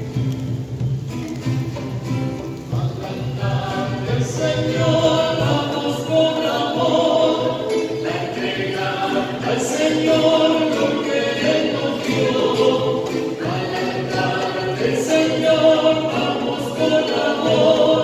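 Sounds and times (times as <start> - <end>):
choir singing a hymn: 2.7 - 18.0.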